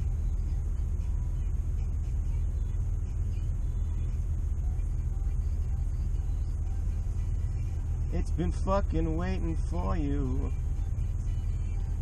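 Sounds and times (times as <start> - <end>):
steady low rumble in car: 0.0 - 12.0.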